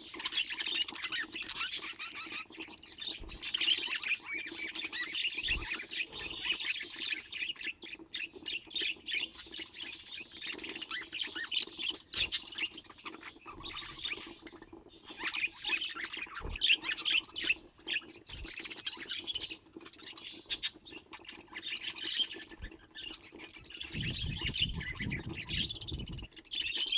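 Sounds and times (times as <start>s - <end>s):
budgerigar chirping and squawking: 0.0s - 26.9s.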